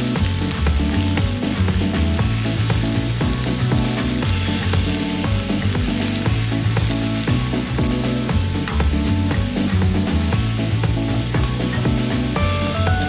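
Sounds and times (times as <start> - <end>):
background music with bass line: 0.0 - 13.0
food sizzling in frying: 0.0 - 13.0.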